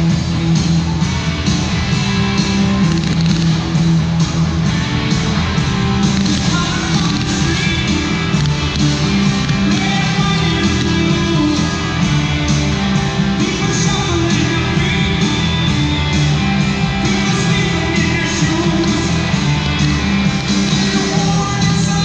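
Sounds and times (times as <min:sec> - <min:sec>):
rock music with singer: 0:00.0 - 0:22.0.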